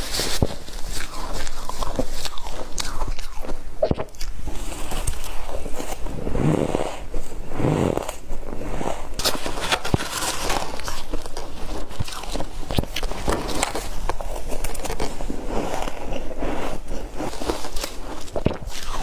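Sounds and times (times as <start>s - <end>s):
chewing crunchy shaved ice: 0.8s - 8.2s, 9.0s - 19.0s.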